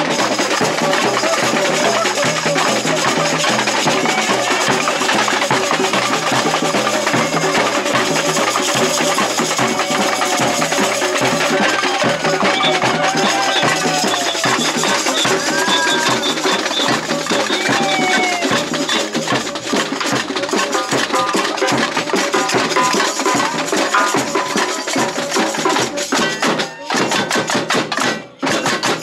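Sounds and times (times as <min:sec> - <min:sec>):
samba percussion ensemble: 0:00.0 - 0:29.0.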